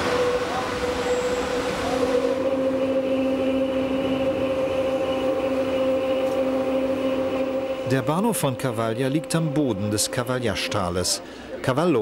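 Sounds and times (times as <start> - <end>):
electric train whine: 0.0 - 12.0
low tone: 0.0 - 12.0.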